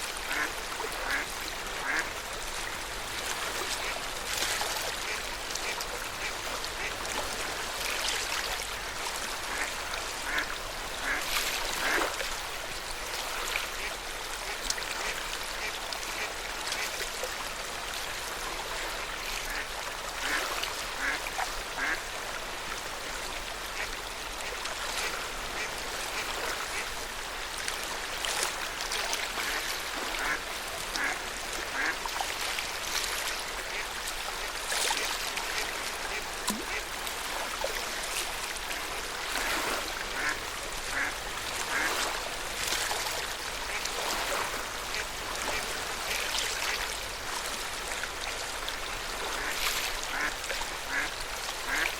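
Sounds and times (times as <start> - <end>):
lake water lapping at shore: 0.0 - 51.9.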